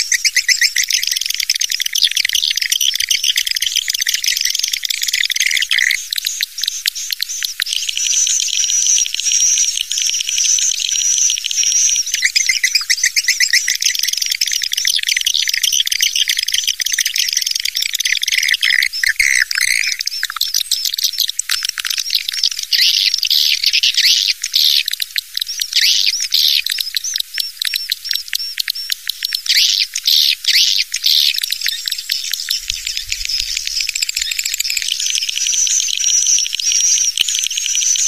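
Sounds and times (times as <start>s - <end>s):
swiftlets twittering chirps: 0.0s - 38.0s.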